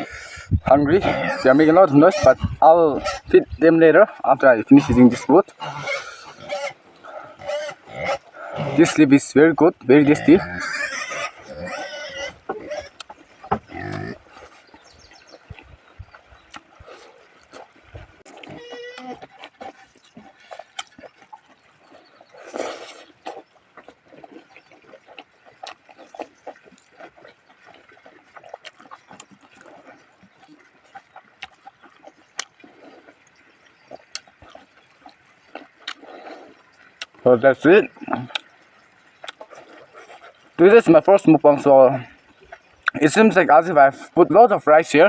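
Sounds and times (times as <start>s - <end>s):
pigs grunting and squealing: 0.0s - 45.0s.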